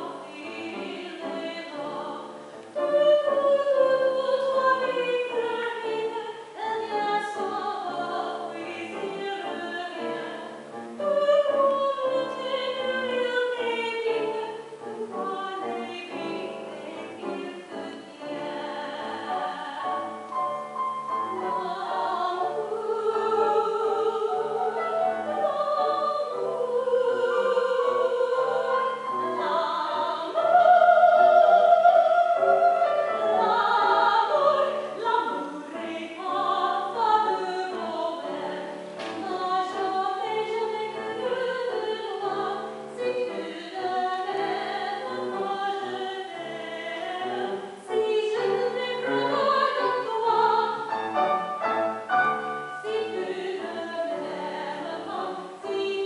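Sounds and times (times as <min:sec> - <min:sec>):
grand piano: 0:00.0 - 0:56.0
woman singing operatic song: 0:00.0 - 0:56.0.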